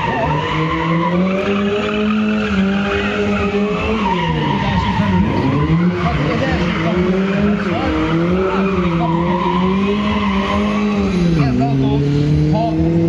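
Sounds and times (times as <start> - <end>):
car engine at high revs: 0.0 - 13.0
tyres squealing and skidding: 0.0 - 13.0.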